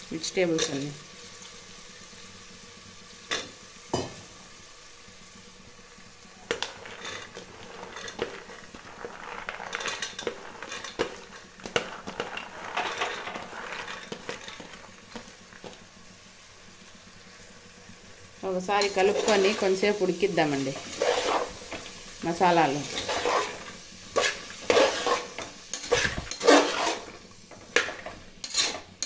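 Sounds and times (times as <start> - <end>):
light sizzle: 0.0 - 29.0.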